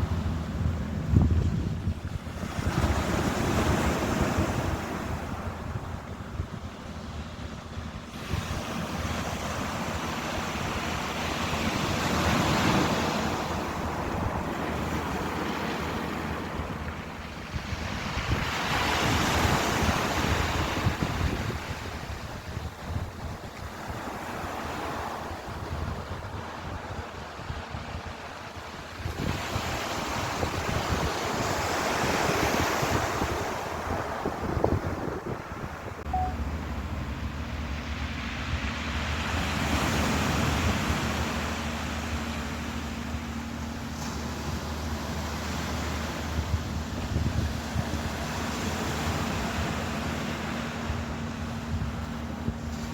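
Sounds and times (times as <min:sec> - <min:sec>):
steady low rumble: 0:00.0 - 0:24.0, 0:34.0 - 0:52.9
ocean waves breaking: 0:00.0 - 0:52.9
wind on microphone: 0:00.0 - 0:52.9.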